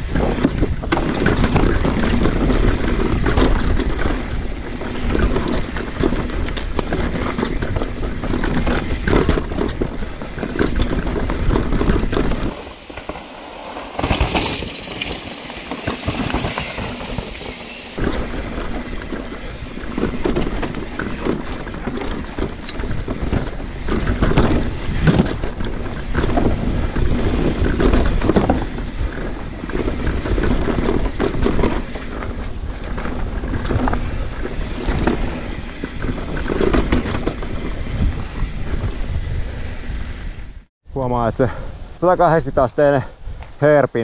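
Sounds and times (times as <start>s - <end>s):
bike knocks and rattles: 0.0s - 39.5s
tyres rumbling over dirt and rocks: 0.0s - 39.8s
wind noise on microphone: 0.0s - 40.7s.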